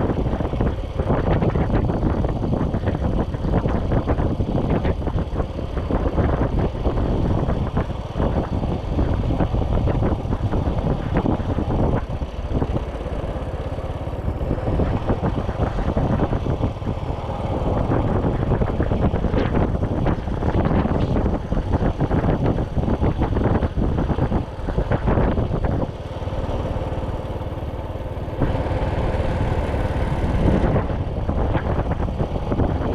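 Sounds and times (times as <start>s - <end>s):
motorcycle engine running: 0.0s - 32.9s
wind buffeting microphone: 0.0s - 32.9s.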